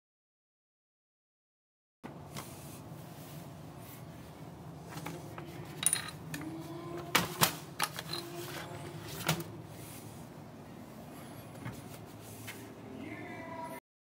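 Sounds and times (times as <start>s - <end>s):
faint room hum: 2.0s - 13.8s.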